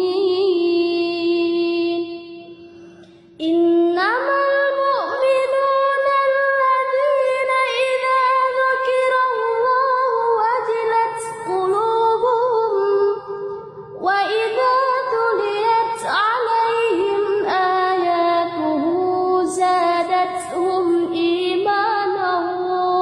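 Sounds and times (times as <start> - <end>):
high voice chanting recitation: 0.0 - 23.0.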